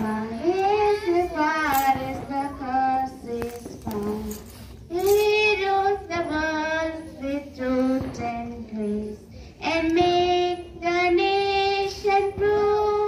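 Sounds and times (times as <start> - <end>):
children and woman singing: 0.0 - 13.0.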